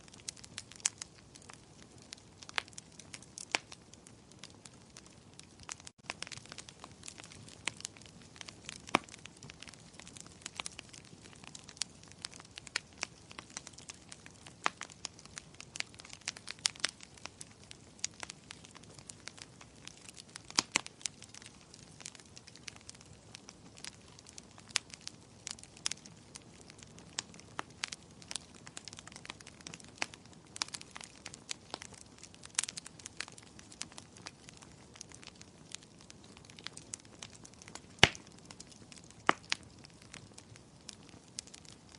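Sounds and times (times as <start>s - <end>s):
fire pops and snaps: 0.0s - 41.9s
low hiss of burning: 0.0s - 41.9s
wood fire crackling: 0.0s - 41.9s.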